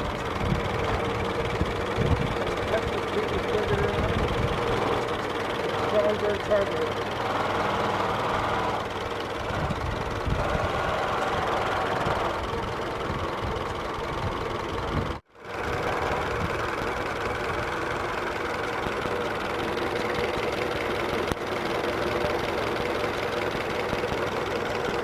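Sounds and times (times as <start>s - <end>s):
old truck engine idling: 0.0s - 25.0s.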